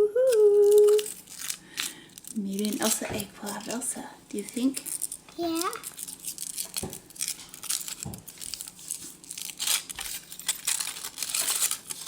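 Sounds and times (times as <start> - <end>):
foil wrapper crinkling and tearing: 0.3 - 12.0.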